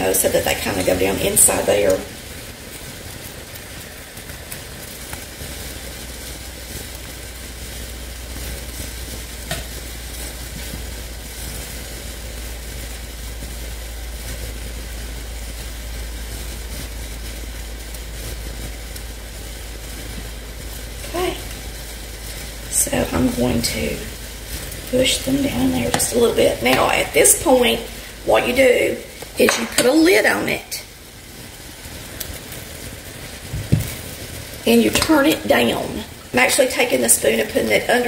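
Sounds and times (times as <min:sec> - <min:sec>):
steady low hum: 0:00.0 - 0:37.9
broth boiling and bubbling: 0:00.0 - 0:38.0.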